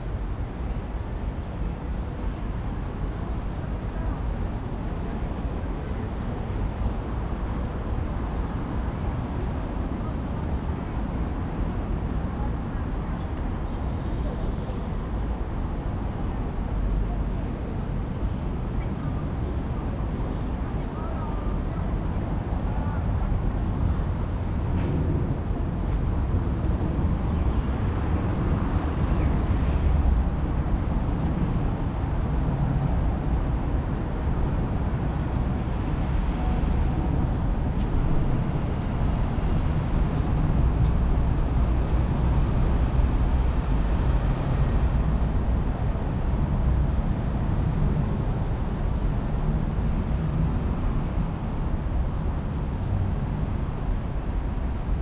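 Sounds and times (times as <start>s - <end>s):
low city rumble: 0.0s - 55.0s.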